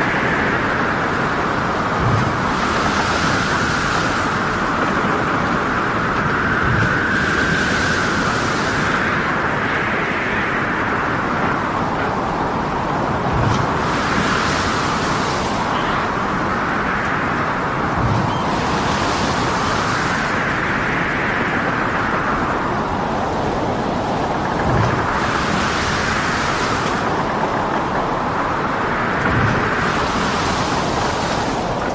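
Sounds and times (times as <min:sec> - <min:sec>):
roar of wind and water: 0:00.0 - 0:31.9
whistling wind: 0:00.0 - 0:31.9.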